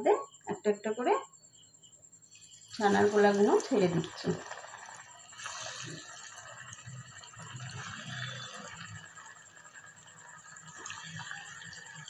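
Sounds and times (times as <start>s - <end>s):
balls sizzling in hot oil: 2.3s - 12.0s.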